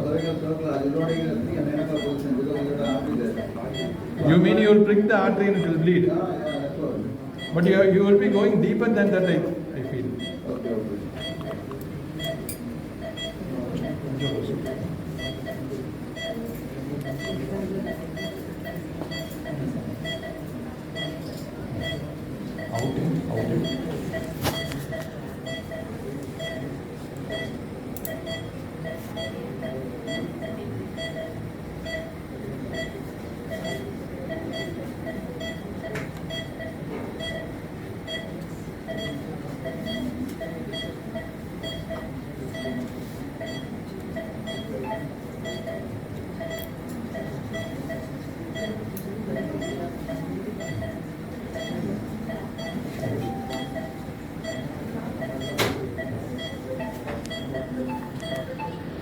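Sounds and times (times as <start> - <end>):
patient monitor beeping: 0.0 - 59.0.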